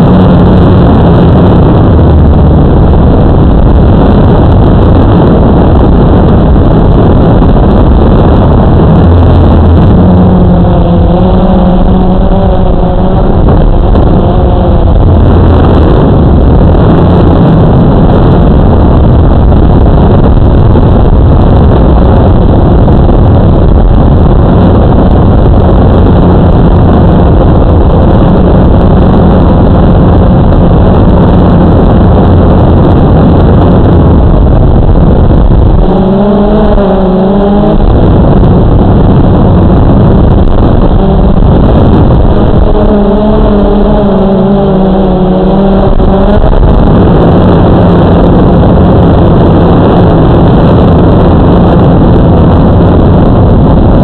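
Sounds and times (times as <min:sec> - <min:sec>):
wavering pitched hum: 0:00.0 - 0:53.8
drone propellers buzzing: 0:00.0 - 0:54.0.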